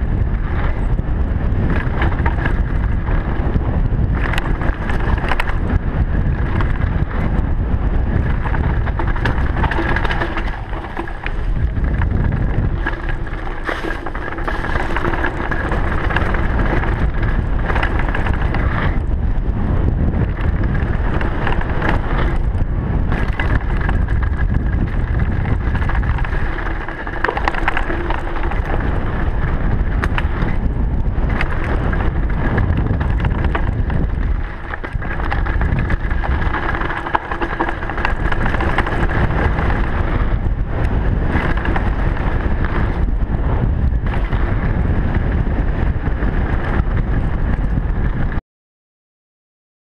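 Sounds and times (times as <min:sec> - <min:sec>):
bike rattling and knocking: 0:00.0 - 0:48.4
tyre noise on dirt: 0:00.0 - 0:48.4
wind rush over microphone: 0:00.0 - 0:48.4.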